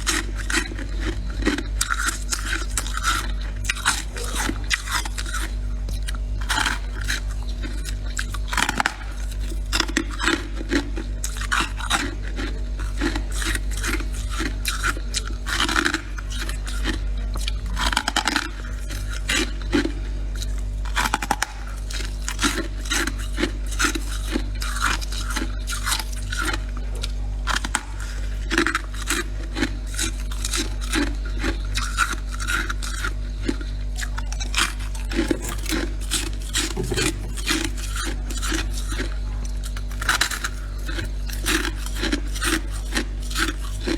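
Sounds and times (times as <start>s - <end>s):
frost being chewed: 0.0s - 43.9s.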